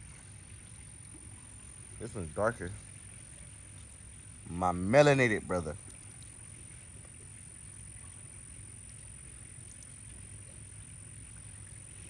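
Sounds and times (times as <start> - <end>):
background hiss: 0.0 - 12.0
low outdoor rumble: 0.0 - 12.0.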